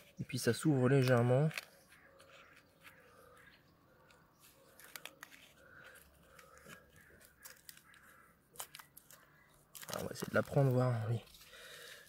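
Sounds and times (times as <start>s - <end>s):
leaves and husks rustling: 0.0s - 12.0s.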